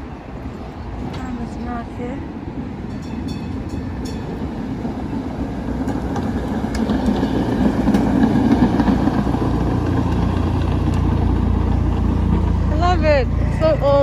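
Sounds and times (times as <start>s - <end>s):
streetcar rumbling on tracks: 0.0s - 14.0s.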